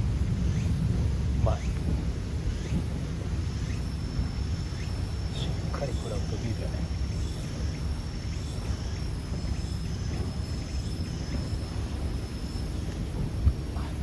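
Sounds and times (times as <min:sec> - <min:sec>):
wind on microphone: 0:00.0 - 0:14.0
faint pulsing chirp: 0:00.4 - 0:14.0
insects trilling: 0:00.4 - 0:14.0.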